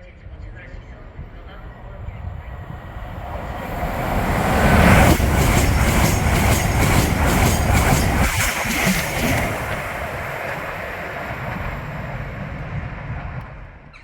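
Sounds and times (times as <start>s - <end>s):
high-speed train passing: 0.0s - 14.0s
train wheels clattering: 0.4s - 14.0s.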